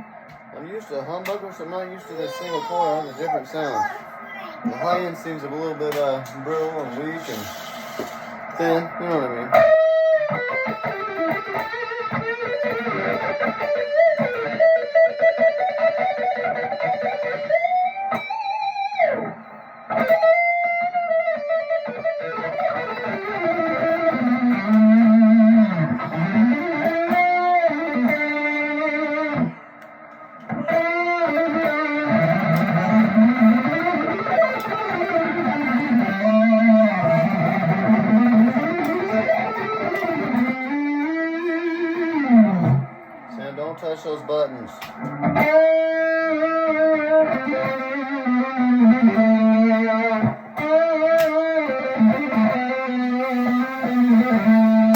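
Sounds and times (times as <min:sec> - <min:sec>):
electric guitar lead lines: 0:00.0 - 0:54.9.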